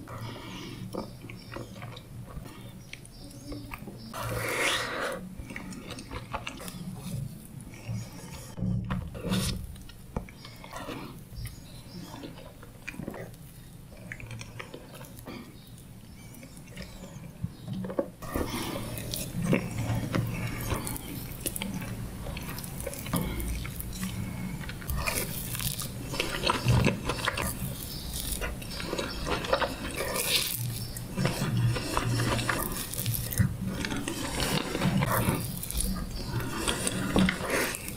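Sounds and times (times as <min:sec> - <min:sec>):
wet chewing and smacking: 0:00.0 - 0:37.9.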